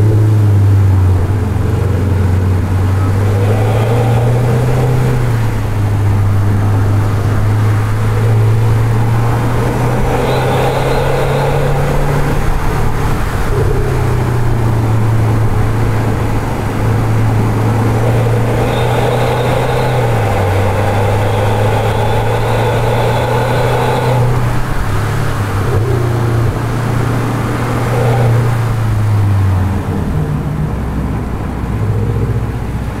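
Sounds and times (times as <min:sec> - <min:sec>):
car engine rumble accelerating: 0:00.0 - 0:33.0.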